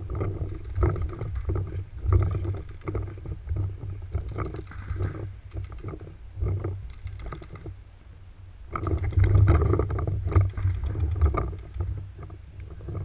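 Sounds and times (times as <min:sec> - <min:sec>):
camera microphone rumbling and rustling: 0:00.0 - 0:13.0.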